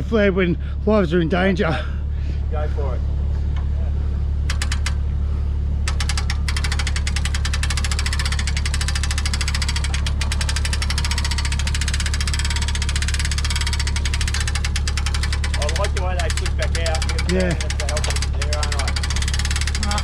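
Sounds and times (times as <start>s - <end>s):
engine running with low hum: 0.0s - 20.0s.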